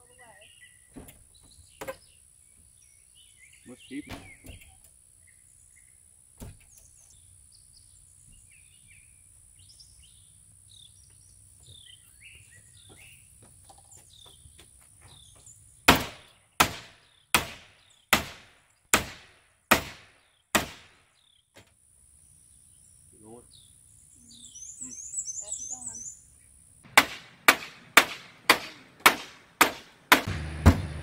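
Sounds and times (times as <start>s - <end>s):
birds chirping quietly: 0.0s - 26.9s.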